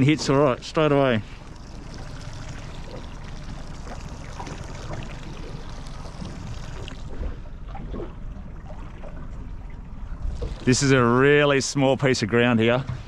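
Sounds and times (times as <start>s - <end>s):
outboard motor idling: 0.0s - 13.0s
water lapping against hull: 0.0s - 13.0s.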